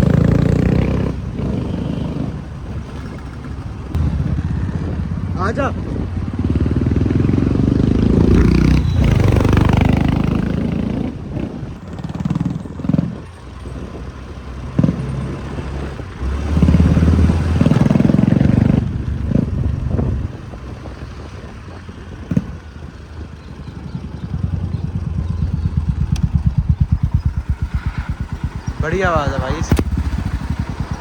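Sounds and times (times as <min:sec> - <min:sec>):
motorcycle engine pulling hard: 0:00.0 - 0:31.0.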